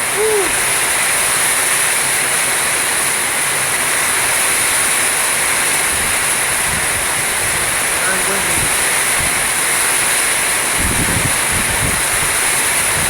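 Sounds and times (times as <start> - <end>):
heavy rain in storm wind: 0.0 - 13.0.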